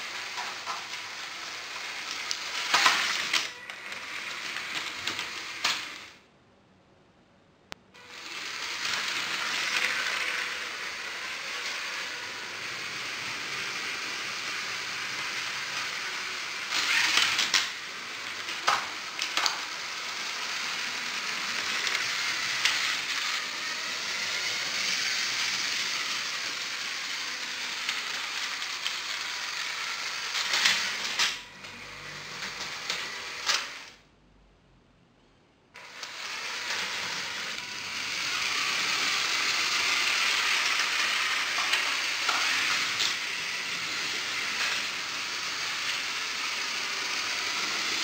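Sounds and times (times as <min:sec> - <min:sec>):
toy train motors whirring: 0:00.0 - 0:06.2, 0:08.0 - 0:34.0, 0:35.8 - 0:48.0
toy trains clattering: 0:00.0 - 0:06.2, 0:08.0 - 0:34.0, 0:35.8 - 0:48.0.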